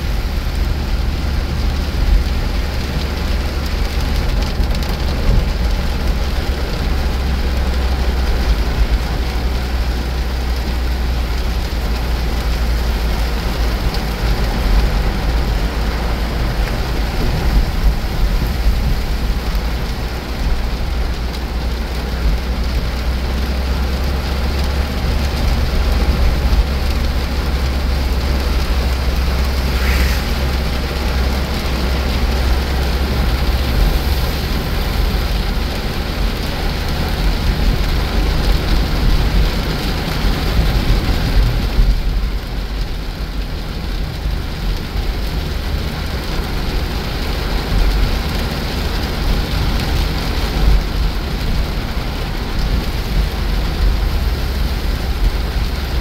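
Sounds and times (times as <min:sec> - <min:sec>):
heavy rain on a car: 0:00.0 - 0:56.0
tyres and engine rumble: 0:00.0 - 0:56.0.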